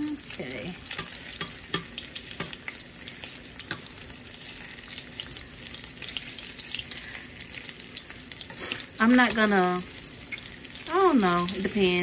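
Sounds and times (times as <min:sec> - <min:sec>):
sausages sizzling in oil: 0:00.0 - 0:12.0.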